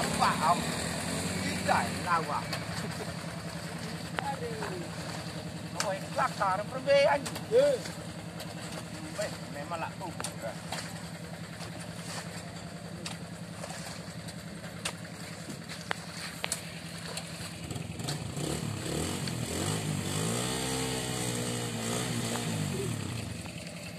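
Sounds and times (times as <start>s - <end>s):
diesel engine idling and revving: 0.0s - 23.9s.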